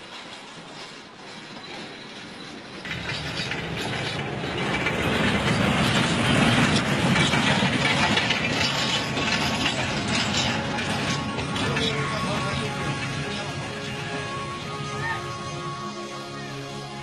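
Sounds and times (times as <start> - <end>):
diesel train rumbling on track: 0.0 - 17.0
wheels rattling and clanking: 0.0 - 17.0.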